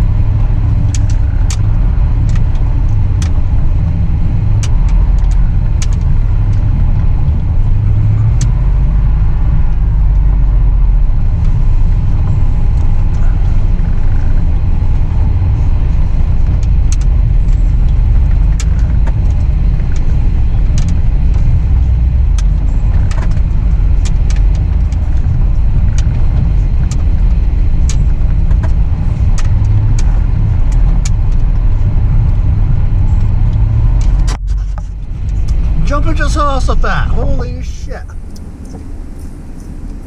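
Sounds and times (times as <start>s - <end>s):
sharp clicks and rattles: 0.0s - 40.0s
truck engine low rumble: 0.0s - 40.0s.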